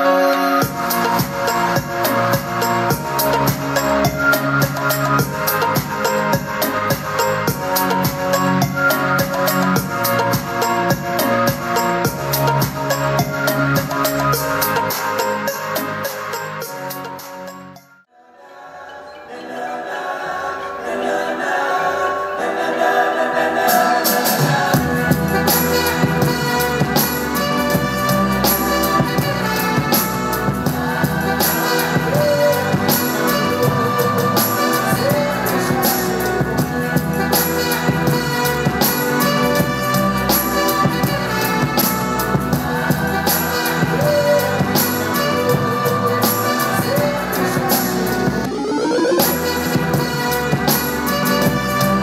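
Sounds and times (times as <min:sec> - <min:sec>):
music with beat and bass: 0:00.0 - 0:18.1, 0:23.7 - 0:52.0.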